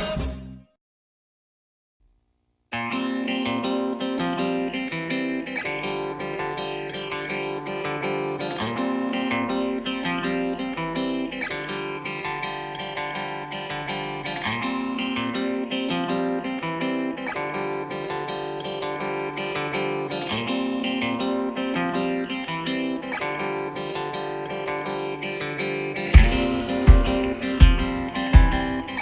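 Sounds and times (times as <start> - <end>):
plucked guitar music: 2.7 - 29.0.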